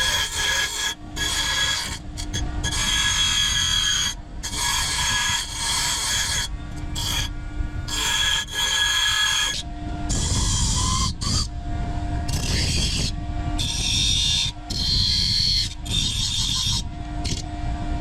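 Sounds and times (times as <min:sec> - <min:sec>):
file rasping on metal: 0:00.0 - 0:07.3, 0:07.9 - 0:11.5, 0:12.3 - 0:17.5.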